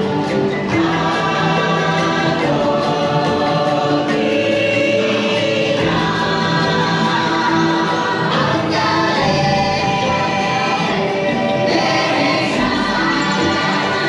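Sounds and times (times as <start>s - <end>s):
choir singing through speakers: 0.0s - 14.0s.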